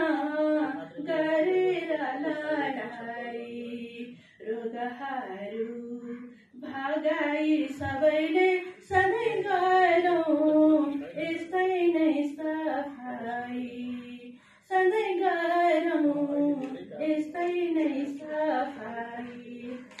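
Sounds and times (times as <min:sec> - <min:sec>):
woman singing unaccompanied: 0:00.0 - 0:20.0.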